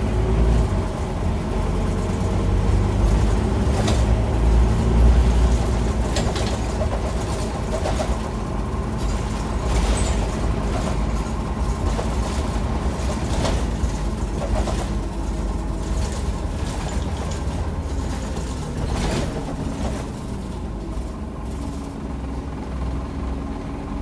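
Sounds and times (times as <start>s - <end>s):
bus engine and road rumble: 0.0s - 24.0s
interior rattles and clicks: 0.2s - 22.0s.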